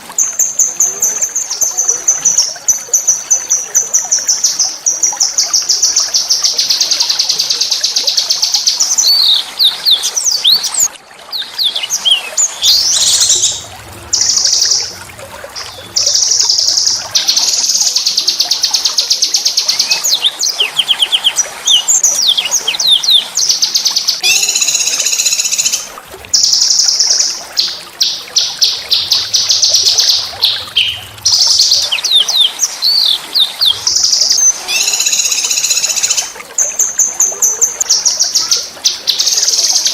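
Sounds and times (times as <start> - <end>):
small songbird singing: 0.2 - 15.0, 15.6 - 39.9.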